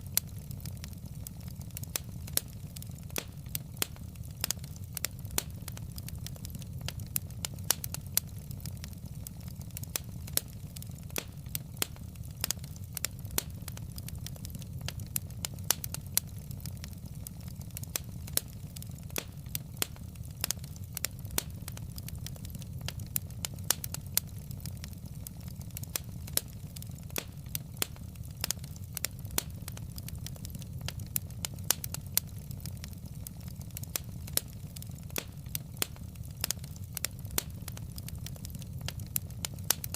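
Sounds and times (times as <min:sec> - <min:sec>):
low rumble of burning logs: 0:00.0 - 0:39.9
wood fire crackling: 0:00.0 - 0:39.9.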